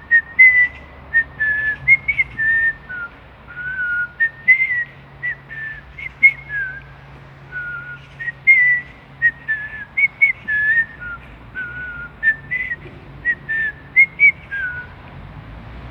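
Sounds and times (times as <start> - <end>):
person whistling a melody: 0.1 - 6.8, 7.5 - 14.9.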